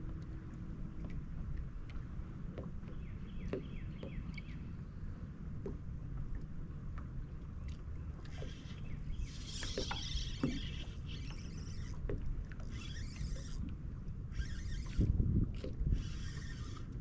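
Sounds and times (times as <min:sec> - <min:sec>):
water lapping against boat hull: 0:00.0 - 0:17.0
wind rumble on microphone: 0:00.0 - 0:17.0.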